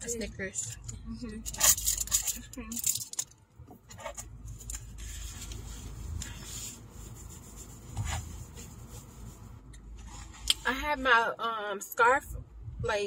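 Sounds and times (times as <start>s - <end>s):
rubbing and rustling handling noise: 0.0s - 11.1s
low steady rumble: 0.0s - 13.0s.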